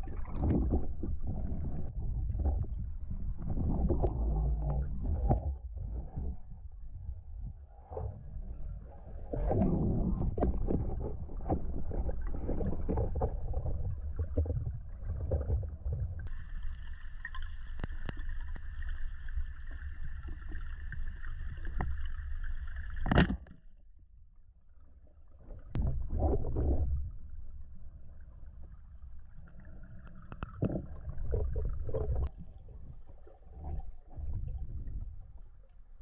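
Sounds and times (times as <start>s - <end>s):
low underwater rumbling: 0.0s - 36.0s.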